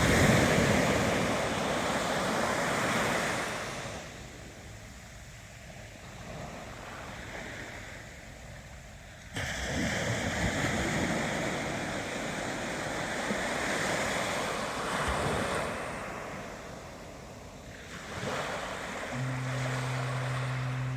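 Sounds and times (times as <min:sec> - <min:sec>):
ocean waves washing in: 0:00.0 - 0:08.6, 0:09.4 - 0:20.9.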